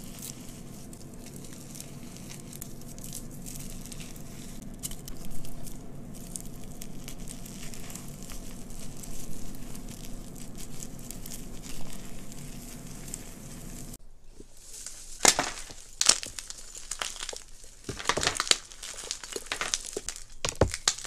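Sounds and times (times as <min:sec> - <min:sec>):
chalk crunching by hand: 0:00.0 - 0:21.0.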